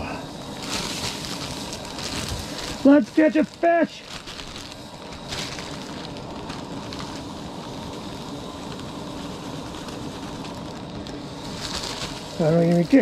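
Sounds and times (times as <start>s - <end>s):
plastic bag rustling: 0.0s - 13.0s
steady hiss: 0.0s - 13.0s.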